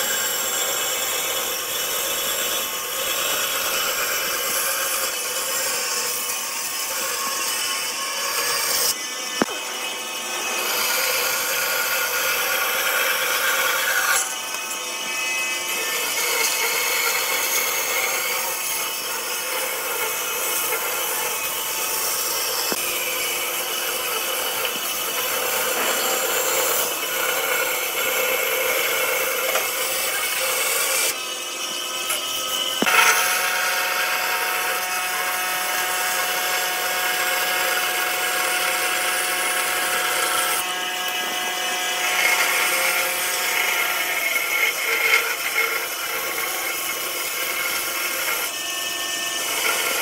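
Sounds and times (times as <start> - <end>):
power tools cutting wood: 0.0 - 50.0.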